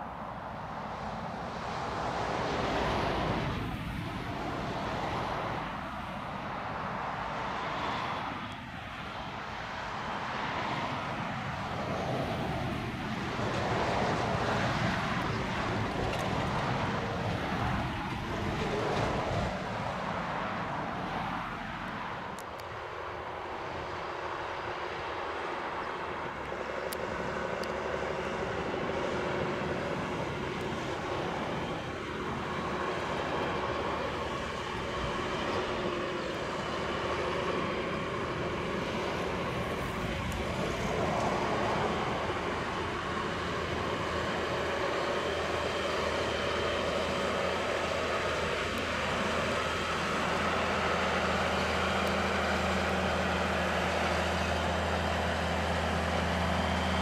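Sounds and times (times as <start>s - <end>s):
tractor diesel engine rumbling: 0.0s - 57.0s.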